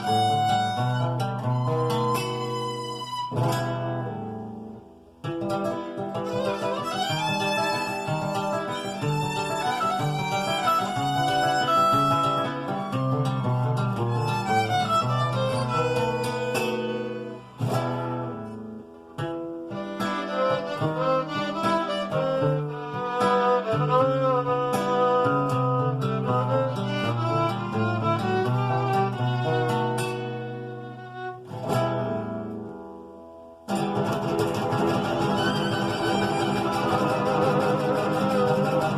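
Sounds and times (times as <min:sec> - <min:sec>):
violin melody: 0:00.0 - 0:04.4, 0:05.6 - 0:18.4, 0:19.6 - 0:32.5, 0:34.3 - 0:38.9
guitar picking: 0:00.0 - 0:38.9.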